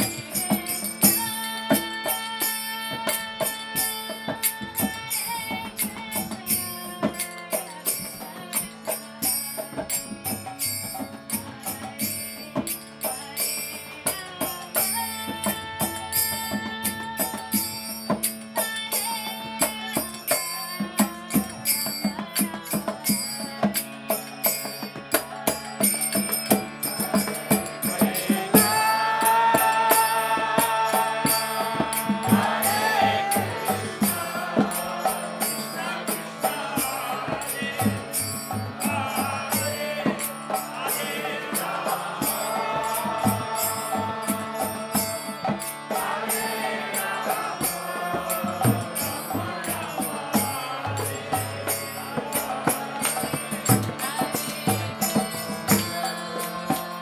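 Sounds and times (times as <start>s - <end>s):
steady percussion beat: 0.0s - 57.0s.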